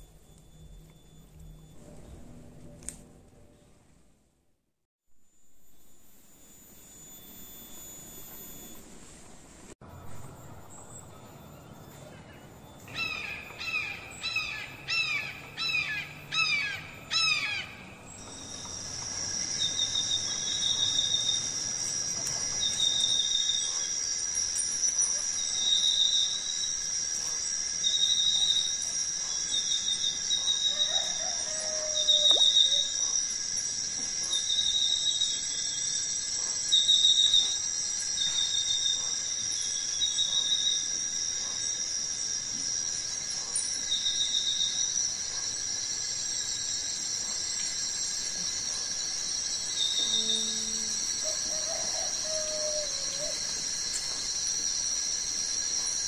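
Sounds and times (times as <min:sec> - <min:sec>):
pulsing insect call: 0:00.0 - 0:02.6, 0:05.2 - 0:09.3, 0:09.9 - 0:56.0
high-pitched insect drone: 0:05.2 - 0:09.0, 0:10.0 - 0:56.0.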